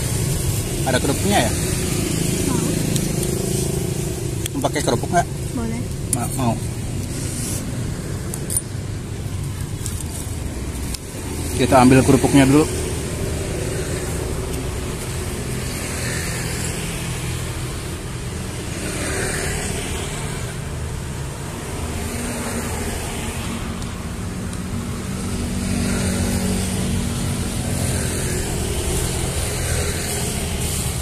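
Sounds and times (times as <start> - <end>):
steady traffic rumble: 0.0 - 31.0
vehicles passing by: 0.0 - 31.0.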